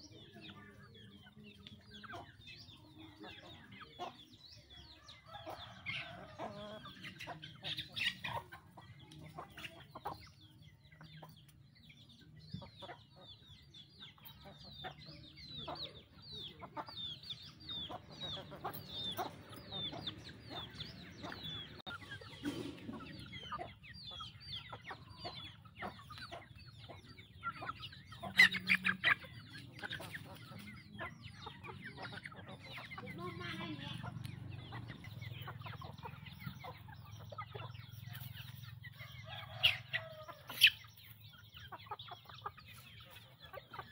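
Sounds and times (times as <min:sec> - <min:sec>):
chickens clucking: 0:00.0 - 0:43.9
chicks peeping: 0:00.0 - 0:43.9.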